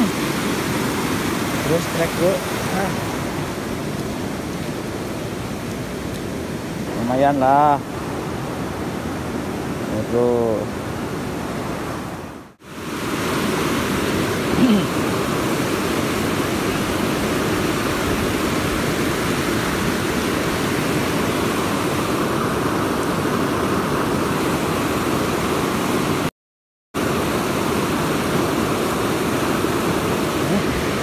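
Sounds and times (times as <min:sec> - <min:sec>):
river water rushing: 0:00.0 - 0:26.3, 0:27.0 - 0:31.0.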